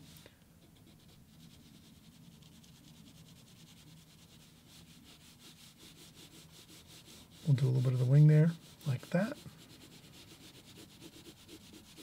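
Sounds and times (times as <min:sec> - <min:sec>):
wax pencil rubbing on paper: 0:00.8 - 0:12.0.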